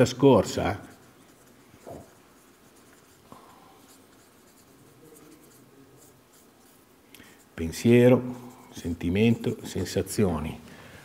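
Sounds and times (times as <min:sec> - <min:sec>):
marker pen scratching on paper: 0:00.0 - 0:10.0.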